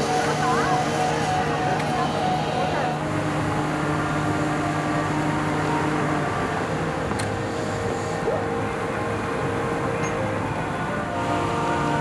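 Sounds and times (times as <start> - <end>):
crane engine droning: 0.0 - 12.0.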